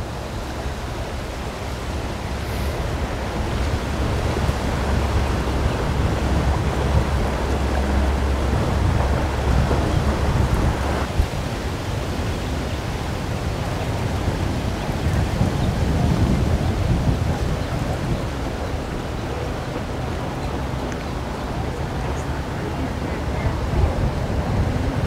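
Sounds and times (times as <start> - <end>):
outboard boat engines passing: 0.0 - 25.0
water washing: 0.0 - 25.0
wind buffeting microphone: 0.0 - 25.0.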